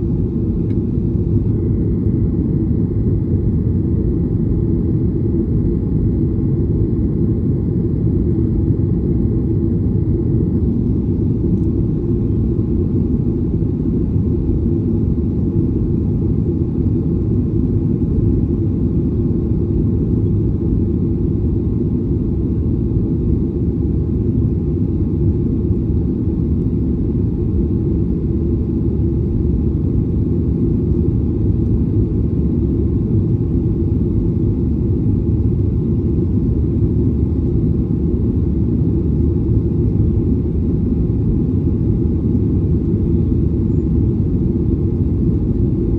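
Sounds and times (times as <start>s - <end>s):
airliner cabin engine rumble: 0.0s - 45.9s.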